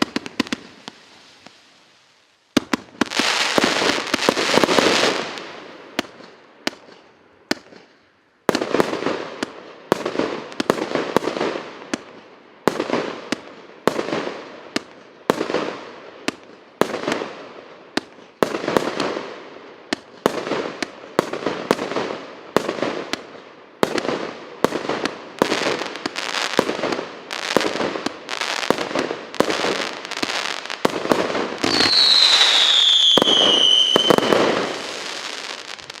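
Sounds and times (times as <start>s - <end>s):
fireworks shots with crackle: 0.0s - 1.8s, 2.5s - 36.0s.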